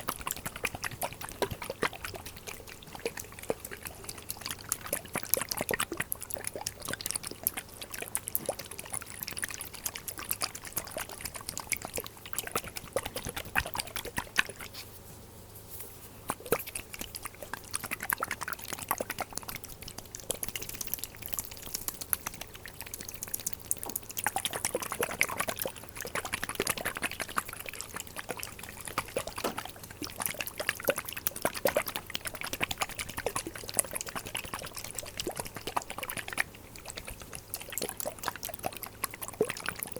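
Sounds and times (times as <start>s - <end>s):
liquid pouring and dribbling: 0.0s - 14.9s, 16.2s - 39.9s.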